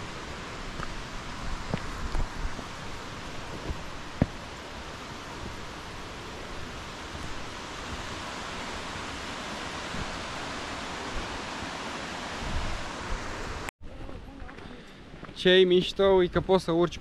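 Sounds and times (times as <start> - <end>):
mountain stream rushing: 0.0 - 13.7.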